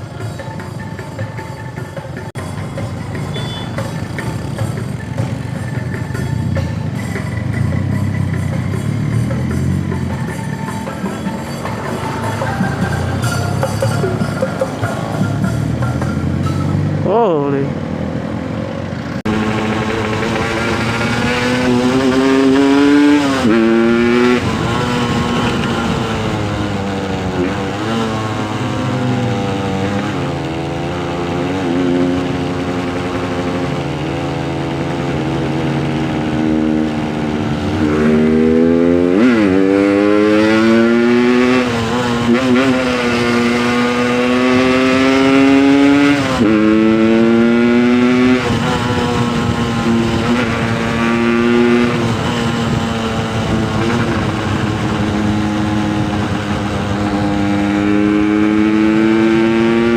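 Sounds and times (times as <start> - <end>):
two-stroke motorcycle engine running: 0.0 - 59.9.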